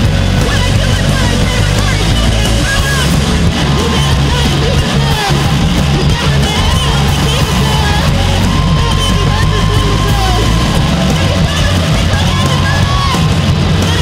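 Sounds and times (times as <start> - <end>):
punk band playing live: 0.0 - 14.0
person shouting vocals: 0.5 - 14.0.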